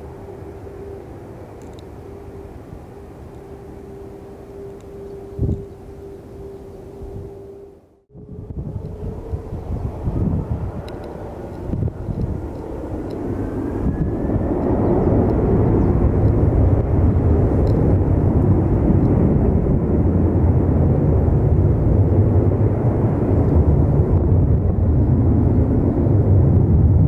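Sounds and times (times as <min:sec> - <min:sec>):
faint rising whine: 0:00.0 - 0:27.0
jet engines spooling up: 0:00.0 - 0:27.0.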